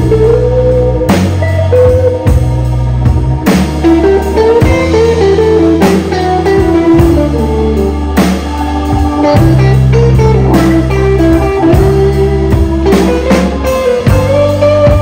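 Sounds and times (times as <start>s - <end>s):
bass line: 0.0s - 15.0s
drum kit: 0.0s - 15.0s
electric guitar: 0.0s - 15.0s.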